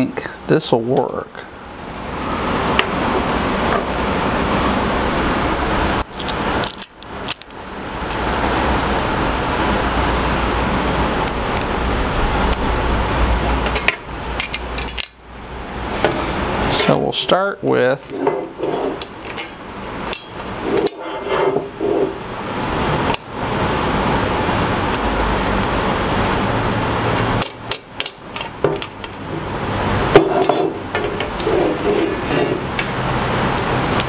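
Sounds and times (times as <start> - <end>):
steady noise: 0.0 - 34.0.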